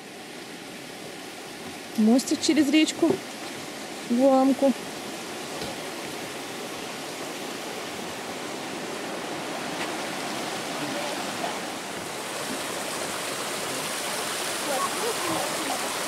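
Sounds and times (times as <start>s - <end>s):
river water running: 0.0s - 16.0s.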